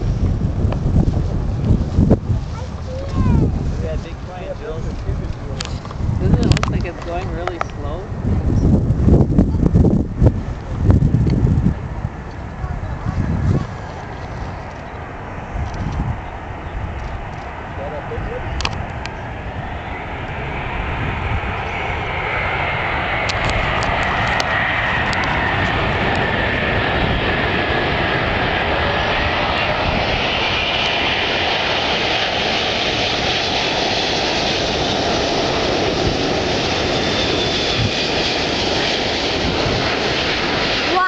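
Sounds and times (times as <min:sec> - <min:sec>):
high engine whine: 0:00.0 - 0:41.0
jet airliner flying low: 0:00.0 - 0:41.0.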